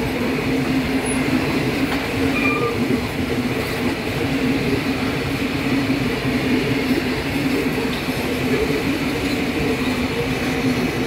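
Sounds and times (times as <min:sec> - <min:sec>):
freight train wheels rumbling on rail: 0:00.0 - 0:11.0.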